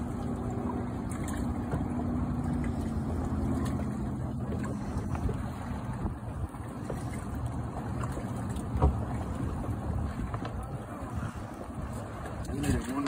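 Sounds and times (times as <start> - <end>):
boat motor idling: 0.0 - 13.0
water noise: 0.0 - 13.0
wind: 0.0 - 13.0.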